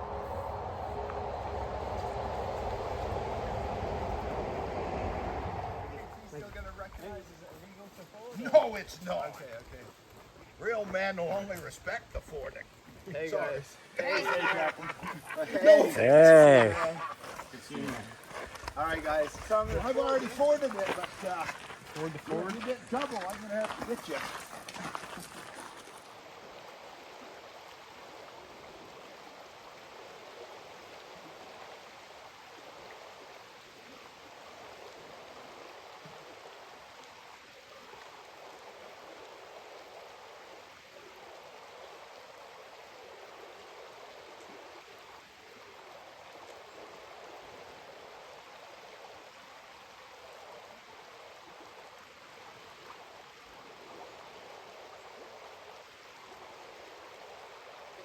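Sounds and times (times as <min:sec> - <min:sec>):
river water rushing: 0:00.0 - 0:10.6, 0:12.7 - 0:58.0.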